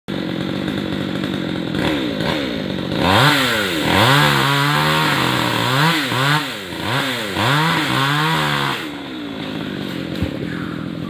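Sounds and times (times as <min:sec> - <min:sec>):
chainsaw engine idling and revving: 0:00.1 - 0:11.0.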